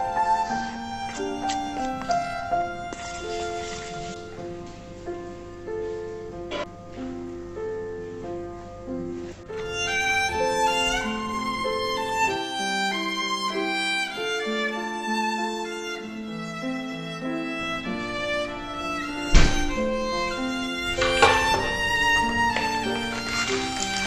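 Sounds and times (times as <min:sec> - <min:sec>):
violin melody with accompaniment: 0:00.0 - 0:05.1, 0:09.5 - 0:24.0.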